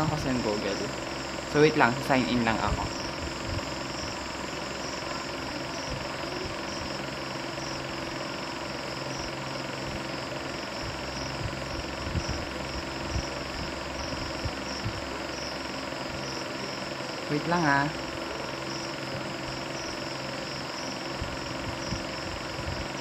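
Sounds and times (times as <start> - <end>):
background hum and hiss: 0.0 - 23.0.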